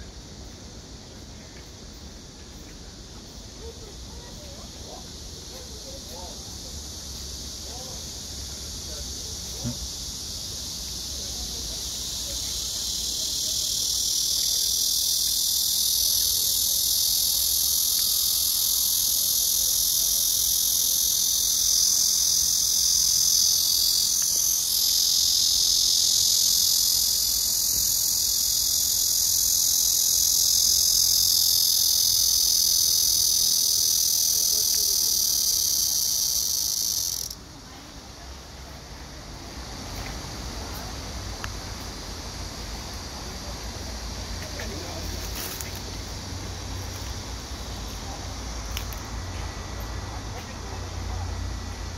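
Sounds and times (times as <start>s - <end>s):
cicada buzzing drone: 0.0s - 51.9s.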